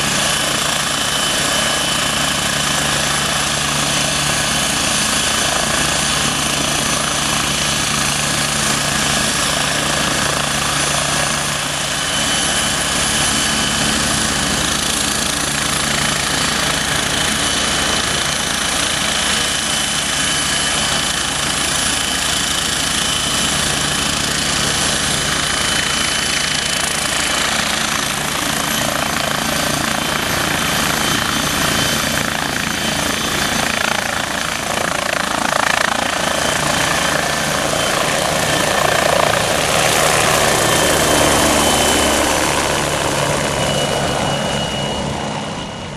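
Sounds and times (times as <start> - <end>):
helicopter rotor and engine: 0.0 - 45.9
high turbine whine: 0.0 - 45.9.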